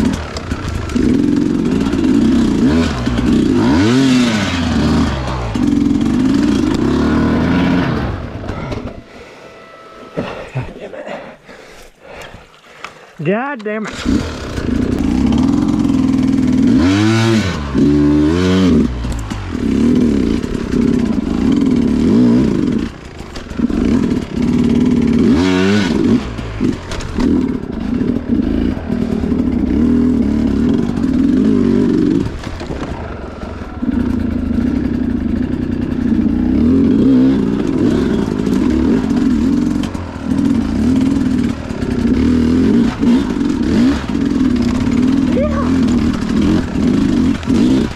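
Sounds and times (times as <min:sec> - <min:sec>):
dirt bike engine revving: 0:00.0 - 0:09.4, 0:13.8 - 0:47.9.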